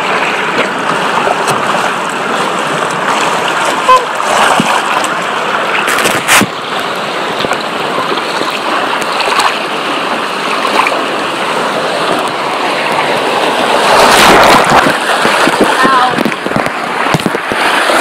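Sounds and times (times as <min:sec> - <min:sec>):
churning rushing water: 0:00.0 - 0:18.0
loud water splash: 0:00.0 - 0:18.0.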